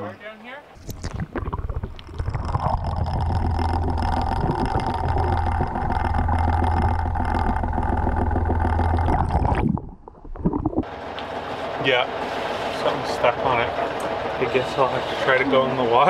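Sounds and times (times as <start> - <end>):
boat engine idling underwater: 0.8 - 16.0.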